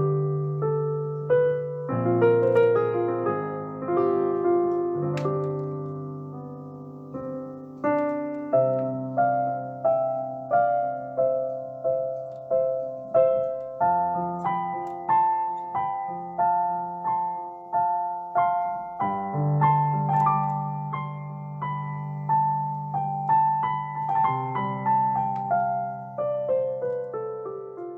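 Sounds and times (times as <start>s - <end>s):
slow gentle piano melody: 0.0s - 27.9s.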